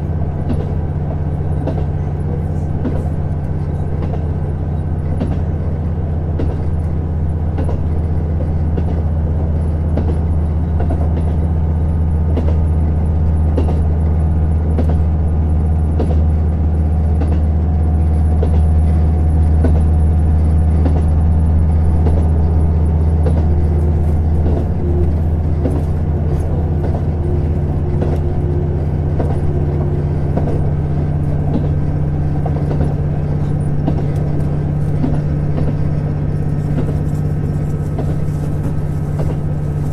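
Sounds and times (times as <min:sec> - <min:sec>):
diesel engine drone: 0:00.0 - 0:39.9
wheels rumbling on rail: 0:00.0 - 0:39.9.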